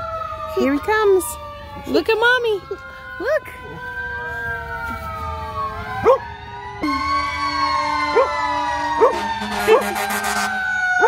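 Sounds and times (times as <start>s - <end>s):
emergency sirens wailing: 0.0s - 11.0s
siren yelps: 0.0s - 11.0s.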